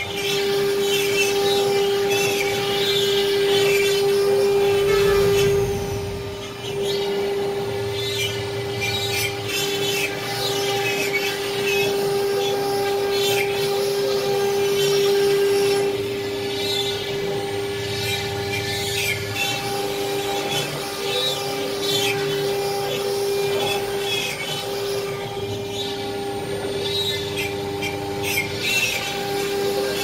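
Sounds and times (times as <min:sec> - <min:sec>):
router spindle engraving board: 0:00.0 - 0:30.0.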